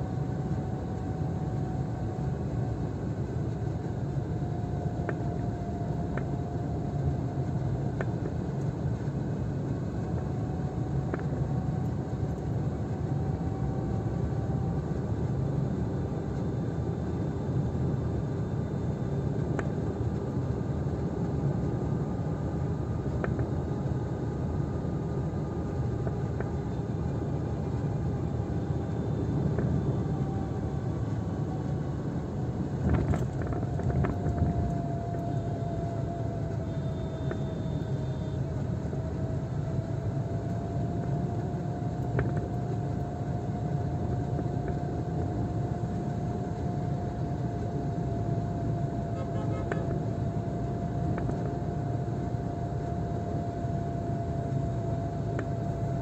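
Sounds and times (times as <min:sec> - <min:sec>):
car engine and tyre noise: 0:00.0 - 0:56.0
faint whine: 0:00.0 - 0:56.0.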